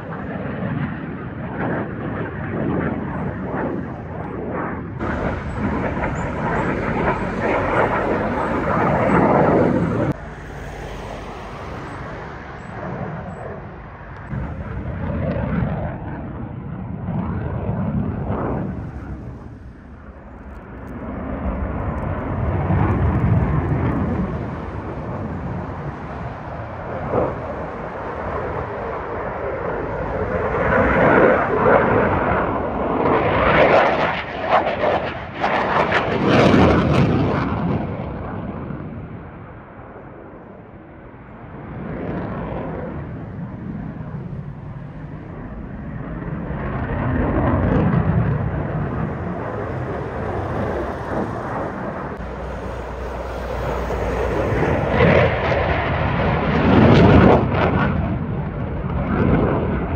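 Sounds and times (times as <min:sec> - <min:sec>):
fighter jet engine roar: 0:00.0 - 0:59.9.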